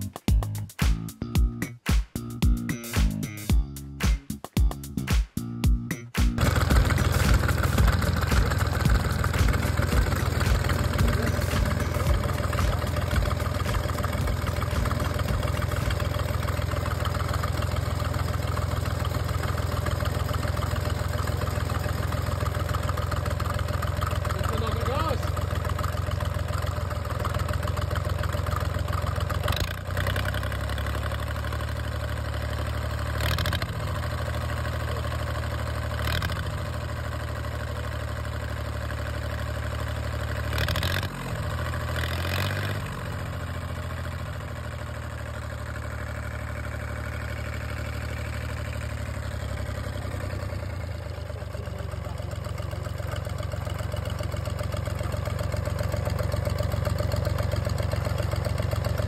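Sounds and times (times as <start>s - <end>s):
marine diesel engine idling: 6.4s - 59.0s.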